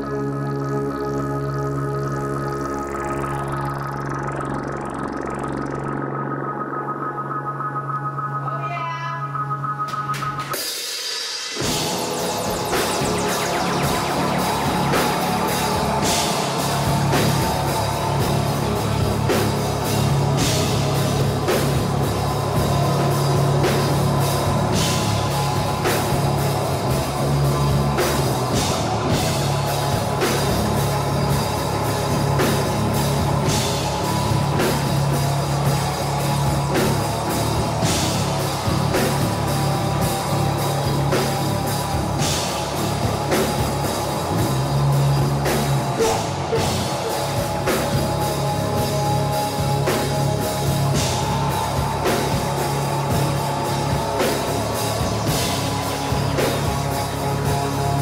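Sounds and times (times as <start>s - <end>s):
rock band playing: 9.6s - 58.0s.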